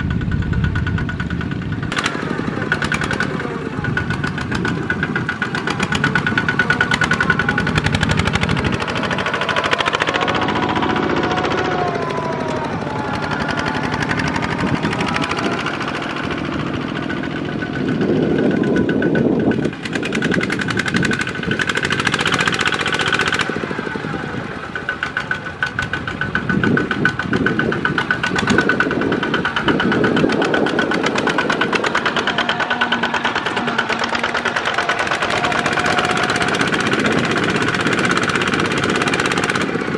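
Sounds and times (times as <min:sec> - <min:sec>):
diesel tractor engines chugging: 0:00.0 - 0:39.9.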